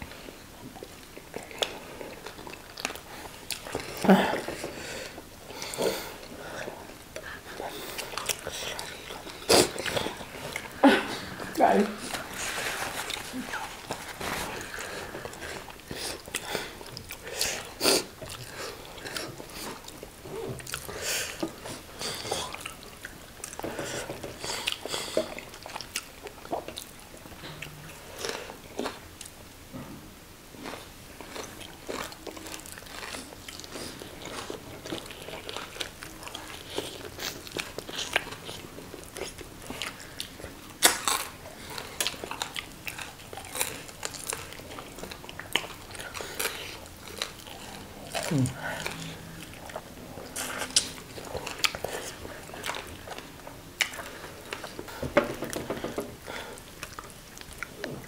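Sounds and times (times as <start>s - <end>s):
chewing and crunching fried fish: 0.0s - 29.4s, 30.6s - 58.0s.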